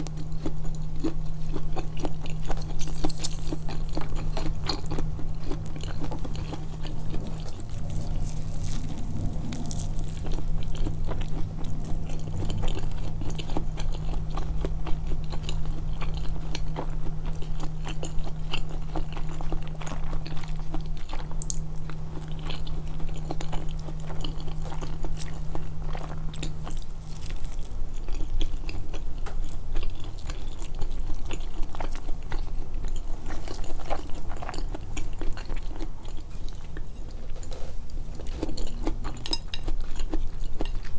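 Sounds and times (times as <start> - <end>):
chewing and crunching food: 0.0 - 40.9
low steady hum: 0.0 - 40.9.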